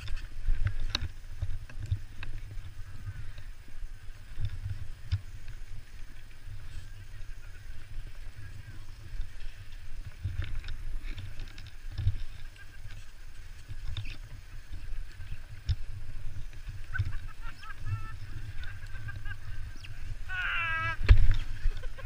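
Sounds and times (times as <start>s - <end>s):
wind rumble on camera: 0.0s - 22.0s
faint distant calls: 1.9s - 22.0s.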